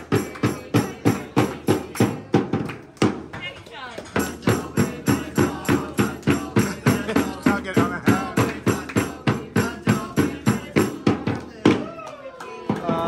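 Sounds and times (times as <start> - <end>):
music with fast percussive beat: 0.0 - 3.3, 4.1 - 12.0, 12.6 - 13.0.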